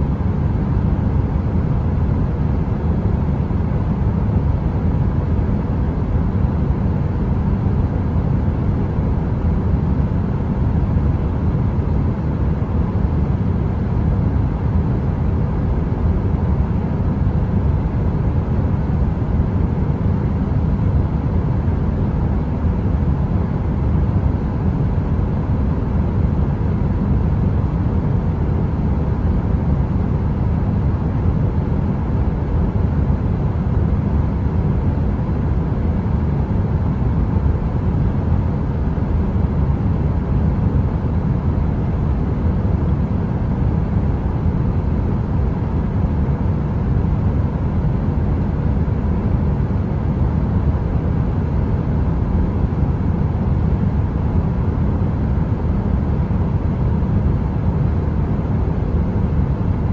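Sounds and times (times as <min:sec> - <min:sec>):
deep rumbling brown noise: 0:00.0 - 0:59.9
faint steady hum: 0:00.0 - 0:59.9.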